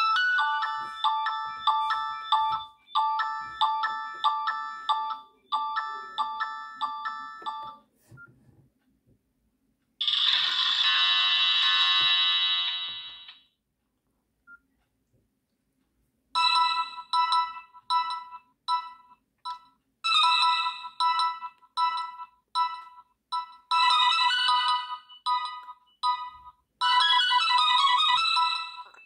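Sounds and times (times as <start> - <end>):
mobile phone ringtone melody: 0.0 - 7.9, 10.0 - 13.3, 16.4 - 29.0.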